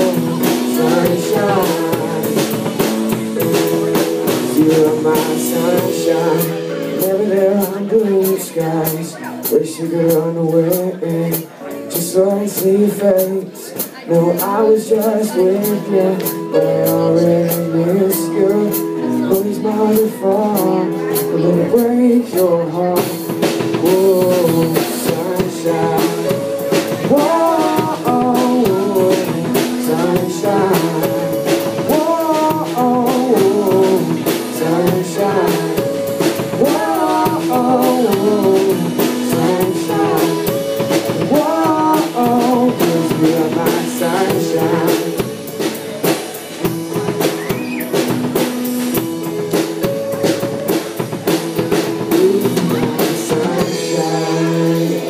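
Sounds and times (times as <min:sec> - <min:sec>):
drum kit beat with rimshots: 0:00.0 - 0:55.0
live band instrumental music: 0:00.0 - 0:55.0.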